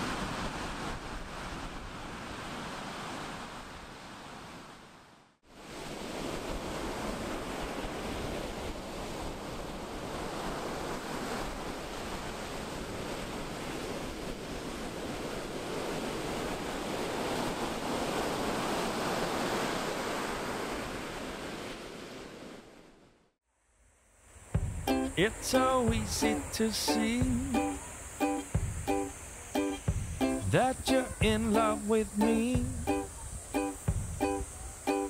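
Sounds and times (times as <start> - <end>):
waves breaking on beach: 0.0 - 23.2, 24.2 - 35.0.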